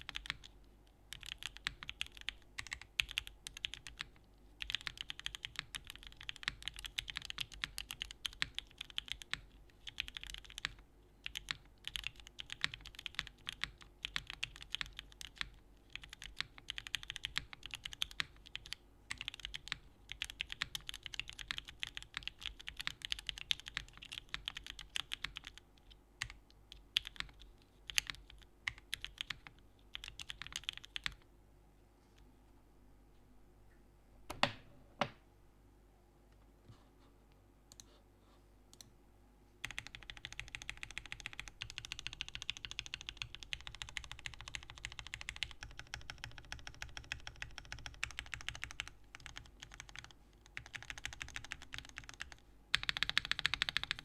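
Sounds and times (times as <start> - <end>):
fast mechanical keyboard typing: 0.0 - 0.5, 1.1 - 25.6, 26.2 - 31.2, 39.6 - 54.0.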